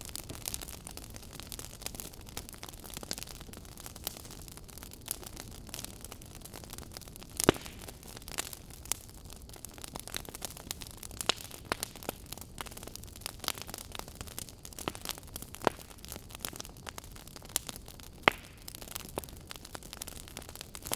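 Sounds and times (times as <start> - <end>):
fire crackling and popping: 0.0 - 20.9.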